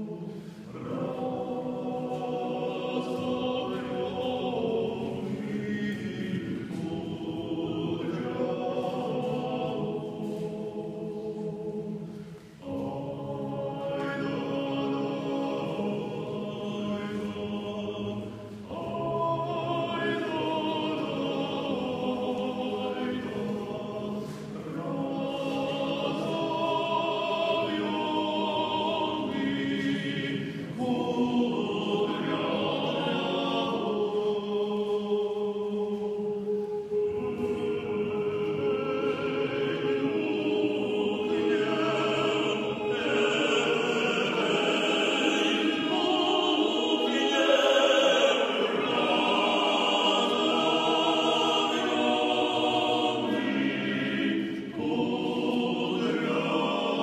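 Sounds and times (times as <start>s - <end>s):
male vocal quartet singing: 0.0s - 57.0s.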